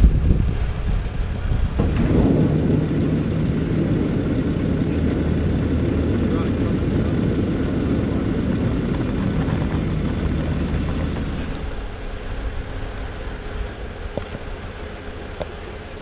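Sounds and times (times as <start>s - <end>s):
outdoor background noise: 0.0s - 16.0s
vehicle engine rumble: 0.0s - 16.0s.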